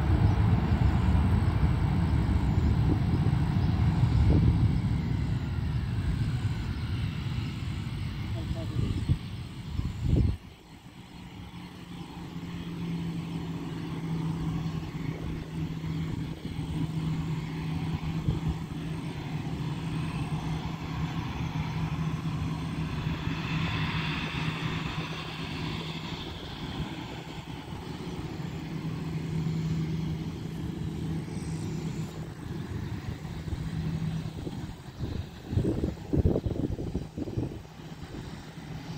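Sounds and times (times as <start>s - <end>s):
jet engine whine: 0.0s - 38.9s
jet engines low hum and rumble: 0.0s - 38.9s.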